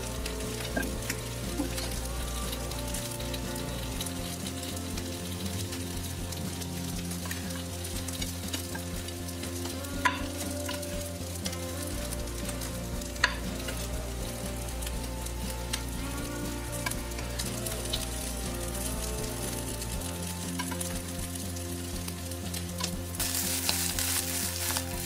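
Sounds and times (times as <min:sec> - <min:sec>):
strips sizzling in hot oil: 0:00.0 - 0:25.0.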